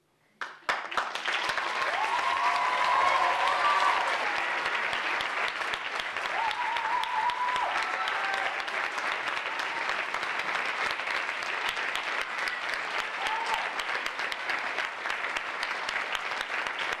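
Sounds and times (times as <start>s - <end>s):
audience applauding: 0.4s - 17.0s.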